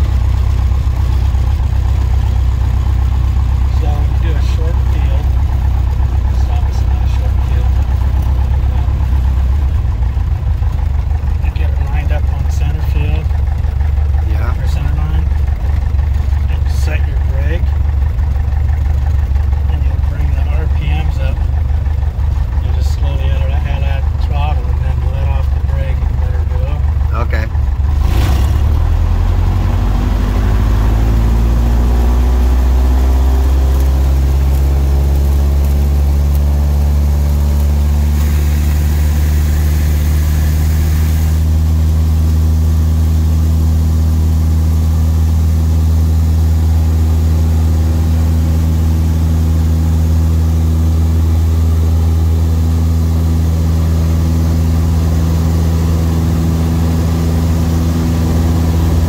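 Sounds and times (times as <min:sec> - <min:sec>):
aircraft engine and propeller: 0:00.0 - 0:59.0.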